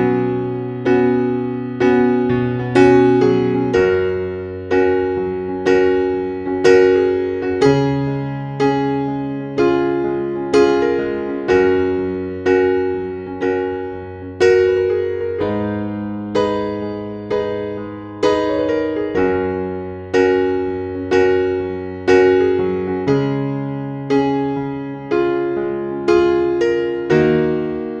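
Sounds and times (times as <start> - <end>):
slow gentle piano music: 0.0 - 28.0.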